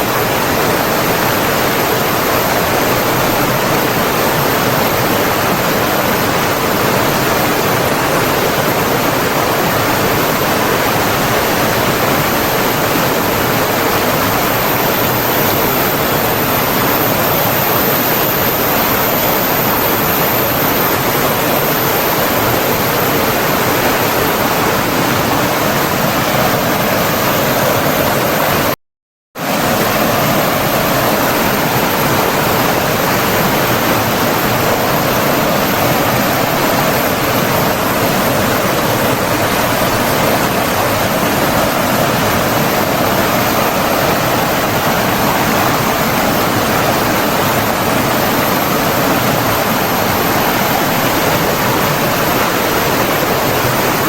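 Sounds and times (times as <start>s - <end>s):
rushing flowing water: 0.0s - 28.8s, 29.4s - 54.0s.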